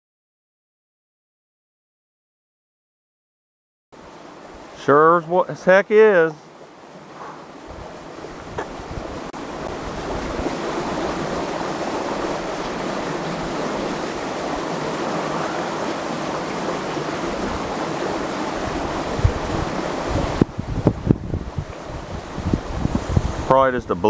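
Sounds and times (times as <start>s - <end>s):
flowing water rushing: 4.0s - 24.0s.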